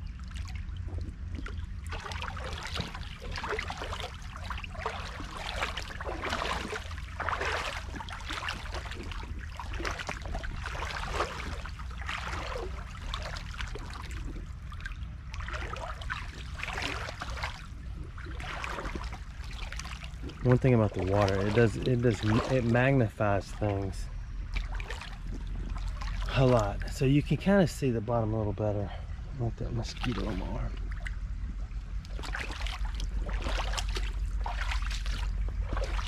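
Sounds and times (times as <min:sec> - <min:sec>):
steady low rumble: 0:00.0 - 0:36.0
boots splashing through water: 0:00.1 - 0:23.9, 0:24.5 - 0:26.9, 0:29.9 - 0:31.2, 0:31.8 - 0:36.0.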